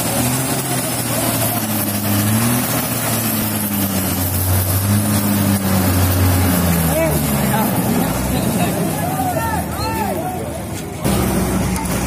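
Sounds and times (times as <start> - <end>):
heavy diesel engine revving: 0.0 - 12.0.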